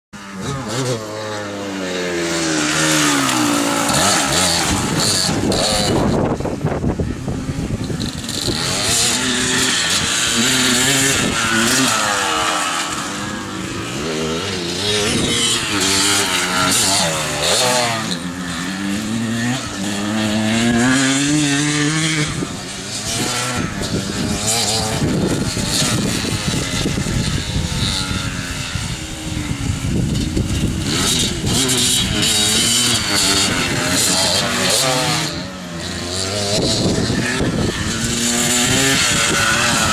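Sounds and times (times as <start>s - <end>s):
dirt bike engines revving: 0.2s - 39.9s.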